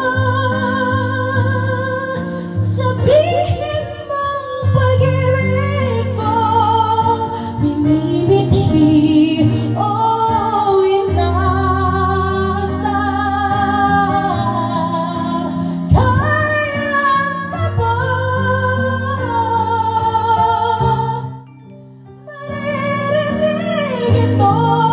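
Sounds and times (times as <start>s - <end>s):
woman singing a slow ballad: 0.0s - 21.4s, 22.1s - 24.9s
instrumental accompaniment: 0.0s - 24.9s.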